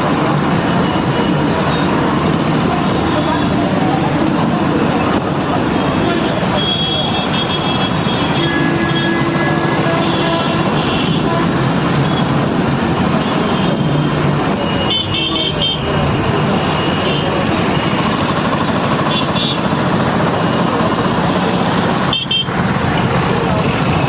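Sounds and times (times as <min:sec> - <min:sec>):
busy road traffic: 0:00.0 - 0:24.0.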